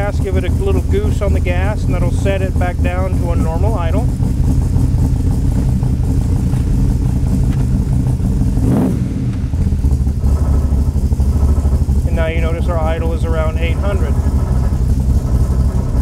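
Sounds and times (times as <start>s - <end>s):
car engine idling: 0.0s - 16.0s
engine throttle blip: 0.0s - 16.0s.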